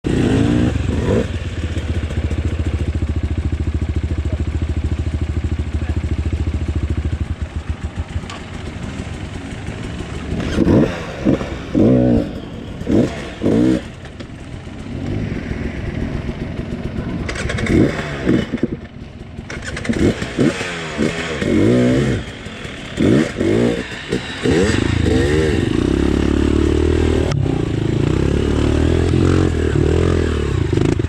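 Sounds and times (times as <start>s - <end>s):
motorcycle engine revving: 0.0s - 31.0s
motorcycle engine idling: 0.1s - 31.0s.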